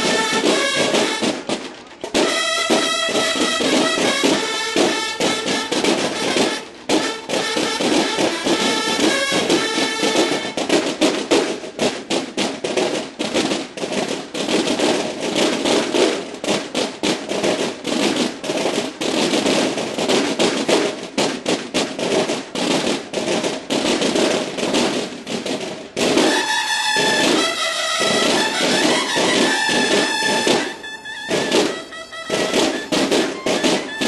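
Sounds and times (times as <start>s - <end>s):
bugles holding notes: 0.0s - 34.0s
marching band drums: 0.0s - 34.0s.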